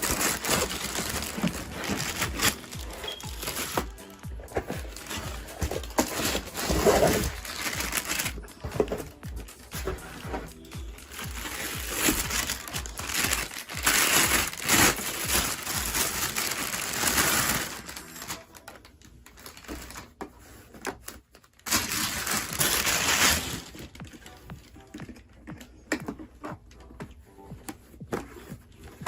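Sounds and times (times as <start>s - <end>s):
plastic and foam packaging crinkling: 0.0s - 29.0s.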